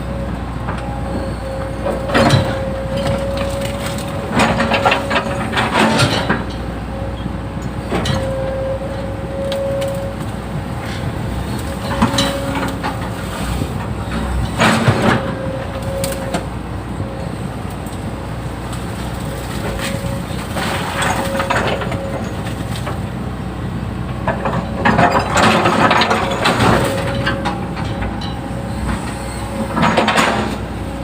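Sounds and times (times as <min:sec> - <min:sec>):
excavator whine: 0:00.0 - 0:31.0.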